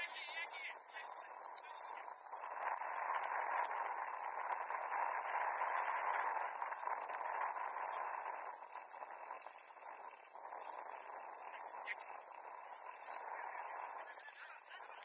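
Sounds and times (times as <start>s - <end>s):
faint crackles: 0.0s - 15.0s
steady rushing noise: 0.0s - 15.0s.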